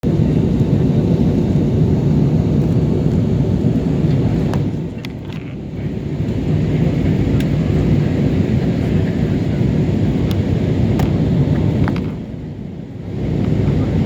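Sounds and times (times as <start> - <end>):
airliner engine and airflow rush: 0.0 - 14.0.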